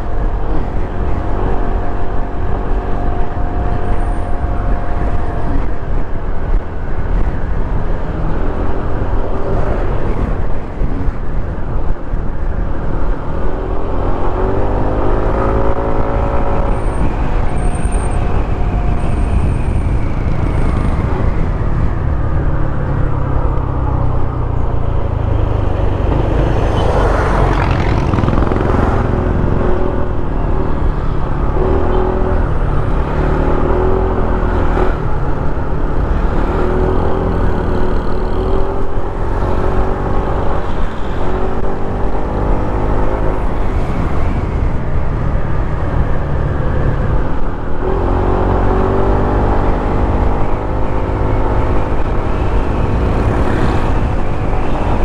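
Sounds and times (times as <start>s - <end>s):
wind and road rumble: 0.0s - 55.0s.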